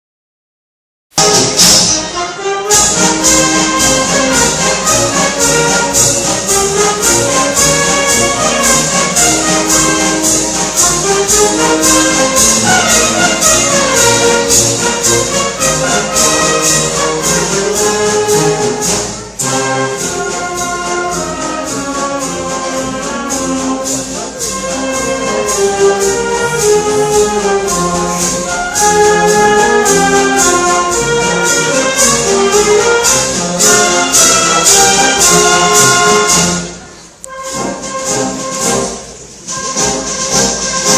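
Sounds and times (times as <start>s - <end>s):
trumpets and trombones: 1.1s - 40.9s
steady drum beat: 1.2s - 36.7s.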